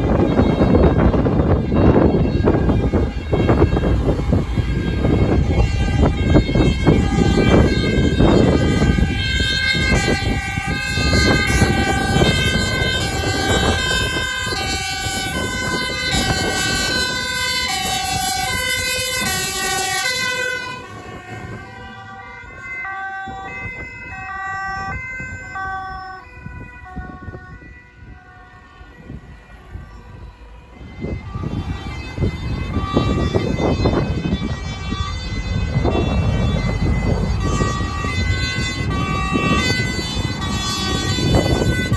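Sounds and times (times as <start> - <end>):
passing traffic: 0.0 - 41.9
two-tone siren: 0.0 - 41.9.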